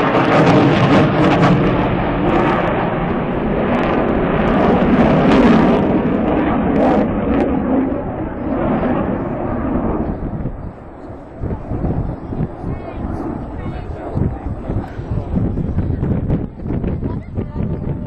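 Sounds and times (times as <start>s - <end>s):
loud jet engine overhead: 0.0s - 18.0s.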